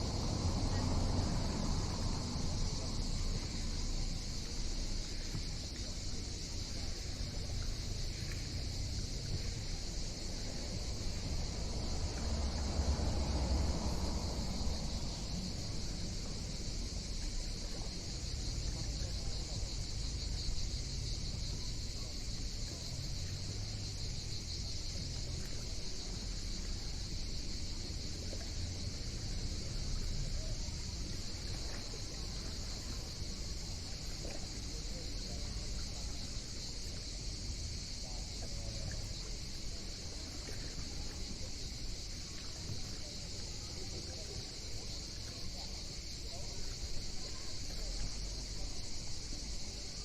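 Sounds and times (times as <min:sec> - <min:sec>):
cicadas buzzing: 0:00.0 - 0:50.0.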